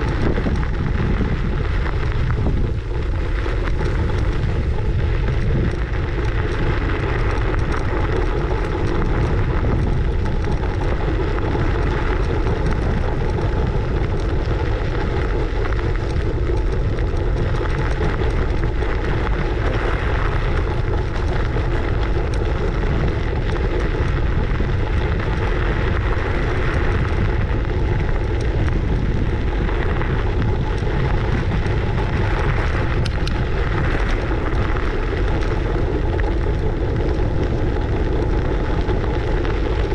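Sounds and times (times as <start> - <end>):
scooter wheels rumbling on road: 0.0 - 39.9
wind rushing on microphone: 0.0 - 39.9.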